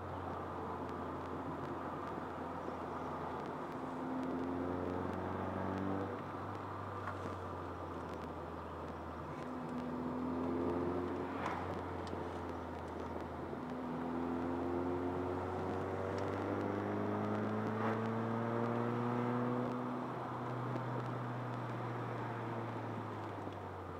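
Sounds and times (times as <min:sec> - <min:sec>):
car engine accelerating: 0:00.0 - 0:23.9
road noise inside car: 0:00.0 - 0:23.9.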